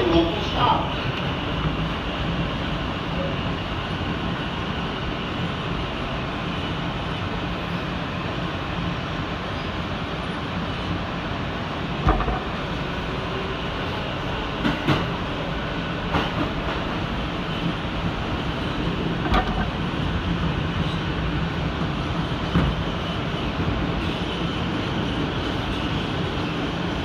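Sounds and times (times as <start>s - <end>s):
subway train rumble and hiss: 0.0s - 27.0s.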